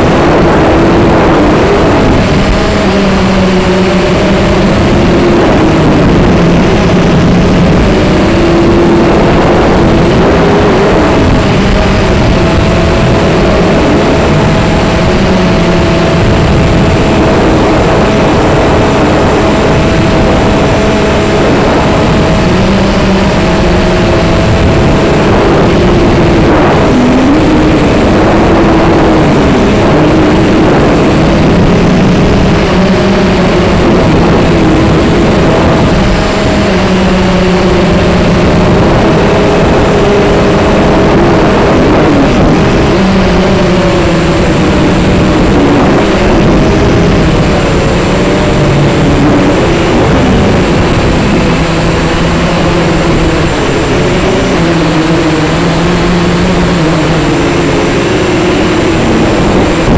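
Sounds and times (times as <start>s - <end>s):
drone propellers whirring: 0.0s - 59.9s.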